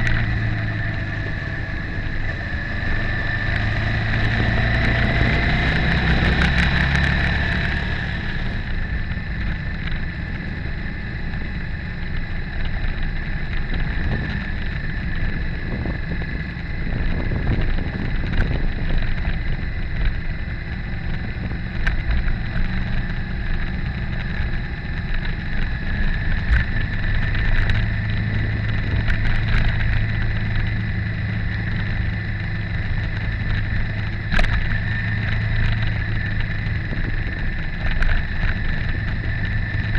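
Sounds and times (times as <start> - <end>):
gravel ticks: 0.0 - 39.9
motorcycle engine running: 0.0 - 39.9
wind noise: 0.0 - 39.9.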